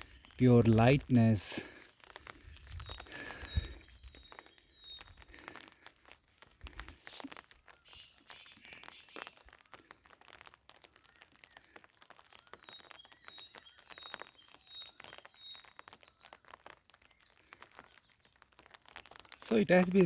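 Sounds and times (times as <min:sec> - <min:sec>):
faint crackling and rustling: 0:00.0 - 0:20.0.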